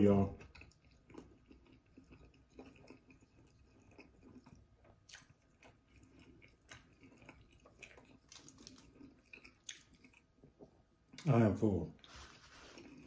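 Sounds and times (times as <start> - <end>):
faint close chewing: 0.0 - 13.0.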